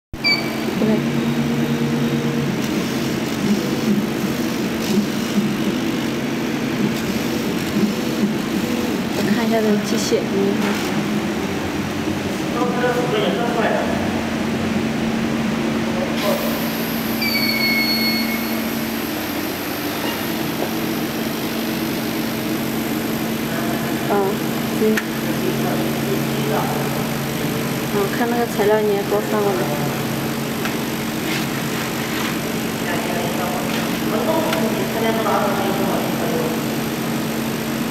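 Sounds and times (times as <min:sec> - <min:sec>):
laser cutting machine whirring: 0:00.2 - 0:37.9.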